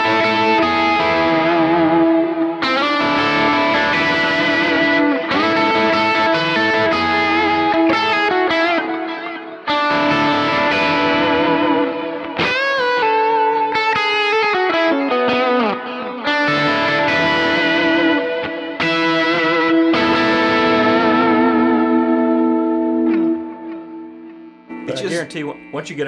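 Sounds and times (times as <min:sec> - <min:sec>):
overdriven electric guitar: 0:00.0 - 0:26.0.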